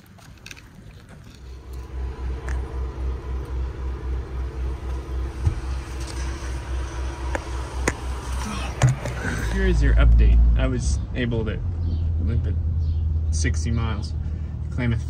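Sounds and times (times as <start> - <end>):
diesel truck engine idling: 1.2 - 15.0.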